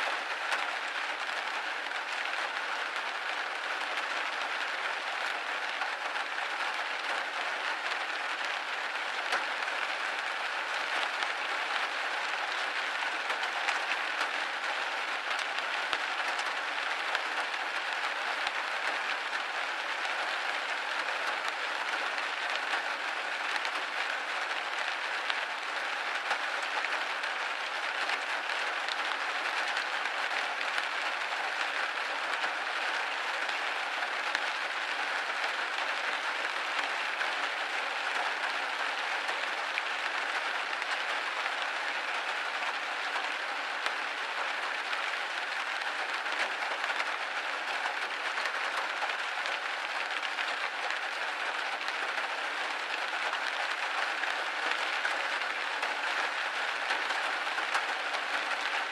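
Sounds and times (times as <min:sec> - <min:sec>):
rain pattering on a window pane: 0:00.0 - 0:58.9.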